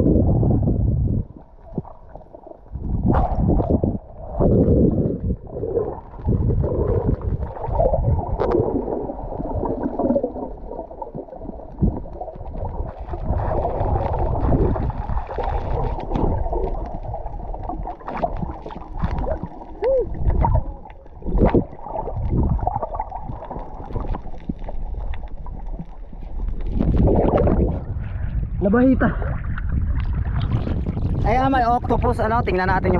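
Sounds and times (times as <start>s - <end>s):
low underwater rumbles: 0.0s - 32.9s
underwater water sloshing: 0.0s - 32.9s.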